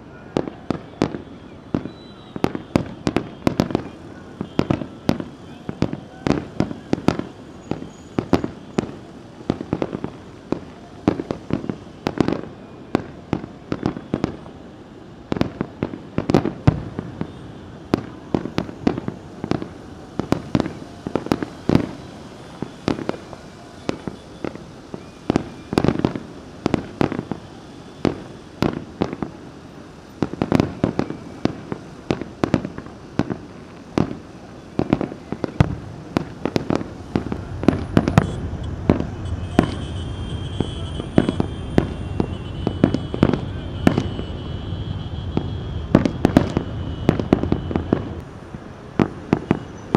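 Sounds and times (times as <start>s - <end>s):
fireworks bursting: 0.2s - 49.9s.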